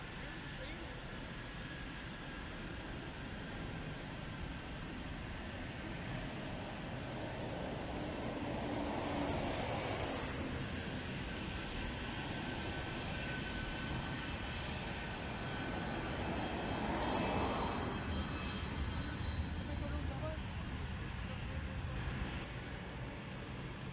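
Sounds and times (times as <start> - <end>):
jet engines rumbling: 0.1 - 23.9.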